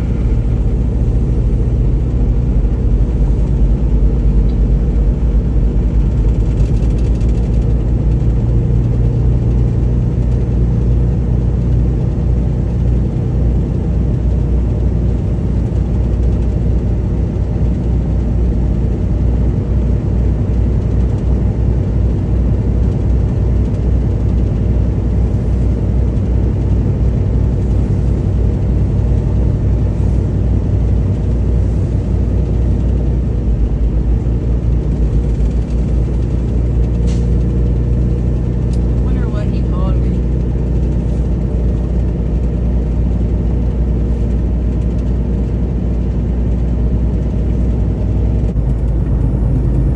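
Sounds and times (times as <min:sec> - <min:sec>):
truck diesel engine rumbling: 0:00.0 - 0:49.9.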